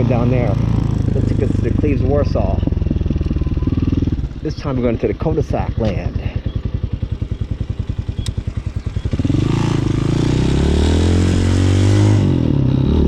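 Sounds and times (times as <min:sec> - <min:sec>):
motorcycle engine chugging and revving: 0:00.0 - 0:13.0.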